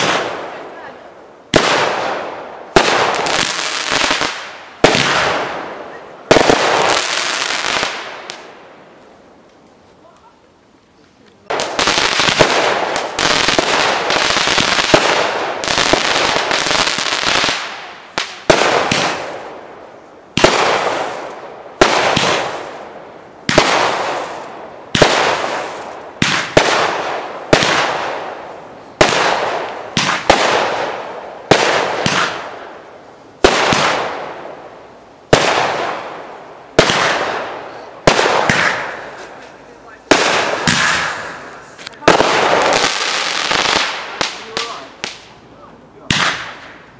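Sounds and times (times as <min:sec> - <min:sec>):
firework bangs: 0:00.0 - 0:08.9, 0:11.4 - 0:45.4, 0:46.0 - 0:46.9
firework crackling: 0:00.0 - 0:46.9.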